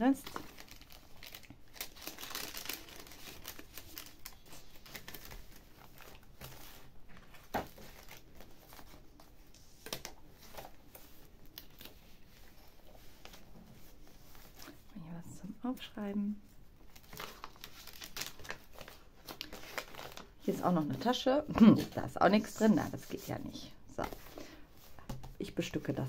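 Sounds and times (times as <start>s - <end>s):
paper pages rustling and crinkling: 0.0s - 14.9s, 16.8s - 26.0s.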